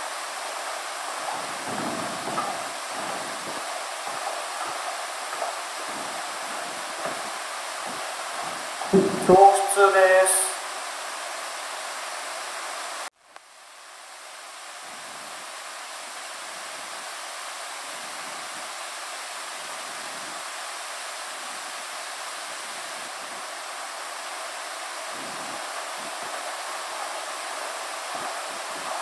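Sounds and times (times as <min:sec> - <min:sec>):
room tone hiss: 0:00.0 - 0:29.0.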